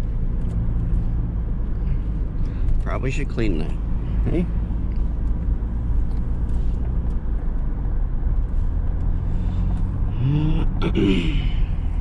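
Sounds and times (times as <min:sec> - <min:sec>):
pickup truck driving rumble: 0:00.0 - 0:12.0.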